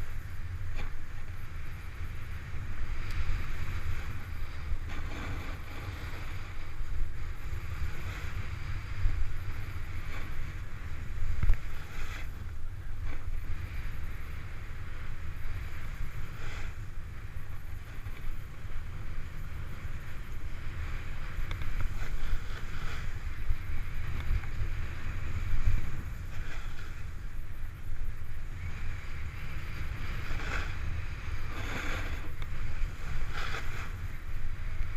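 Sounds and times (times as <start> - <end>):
snowboard scraping over snow: 0.0 - 34.9
wind buffeting microphone: 0.0 - 34.9.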